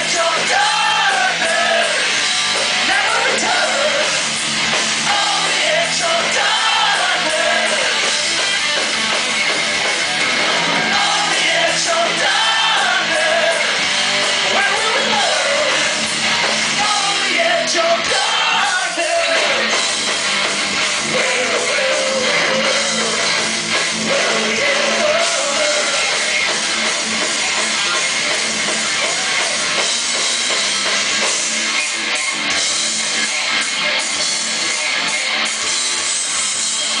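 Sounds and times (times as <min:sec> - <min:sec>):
heavy metal band playing live: 0:00.0 - 0:37.0.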